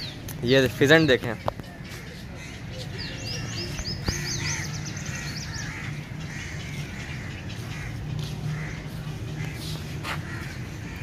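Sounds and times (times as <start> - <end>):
small birds chirping: 0.0 - 11.0
soft bird calls: 0.0 - 11.0
steady low rumble: 1.6 - 11.0.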